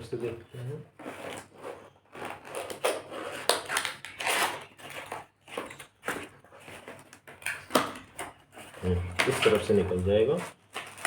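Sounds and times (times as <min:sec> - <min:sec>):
packaging crackling and rustling: 0:00.0 - 0:11.0.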